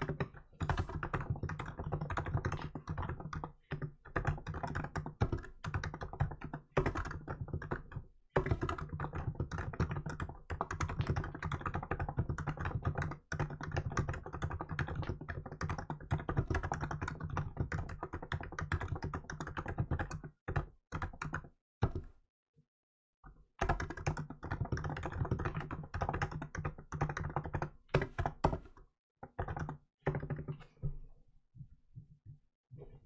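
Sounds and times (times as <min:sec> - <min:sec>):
fast keyboard typing: 0:00.0 - 0:22.1, 0:23.6 - 0:30.7.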